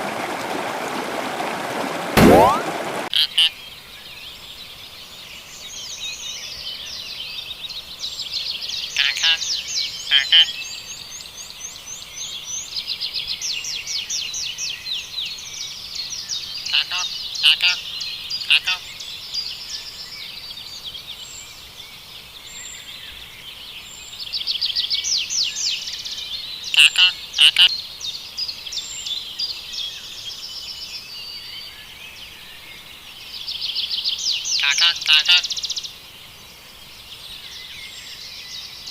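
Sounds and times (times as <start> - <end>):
small birds chirping: 3.2 - 38.9.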